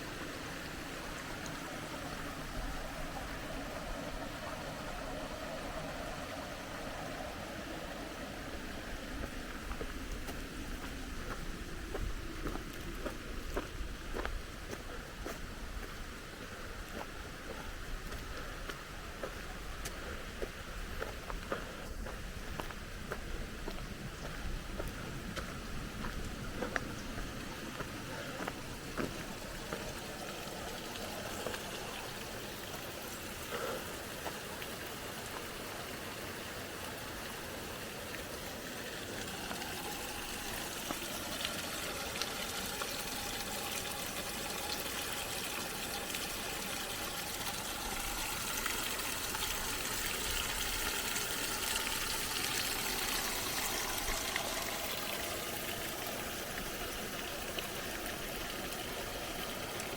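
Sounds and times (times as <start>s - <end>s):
water running and trickling: 0.0s - 15.1s, 19.2s - 59.9s.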